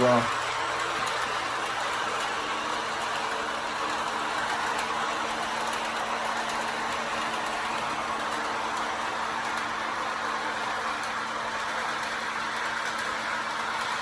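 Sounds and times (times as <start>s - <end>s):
toy train whirring on track: 0.0s - 14.0s.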